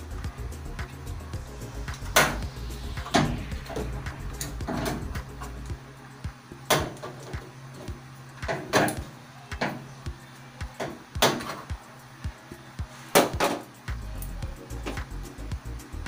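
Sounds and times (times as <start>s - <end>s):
faint music: 0.0s - 16.0s.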